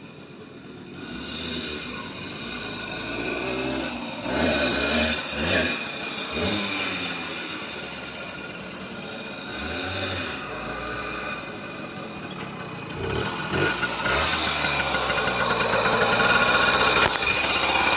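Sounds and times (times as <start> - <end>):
moped two-stroke engine running: 0.2 - 17.9.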